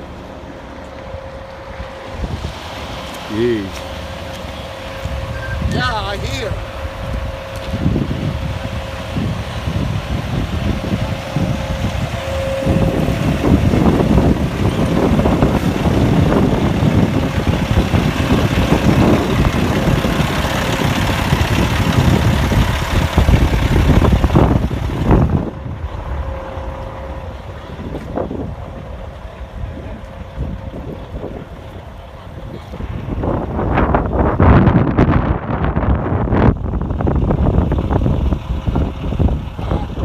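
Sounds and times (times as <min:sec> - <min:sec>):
road vehicle noise: 0:00.0 - 0:40.0
wind buffeting microphone: 0:00.0 - 0:40.0.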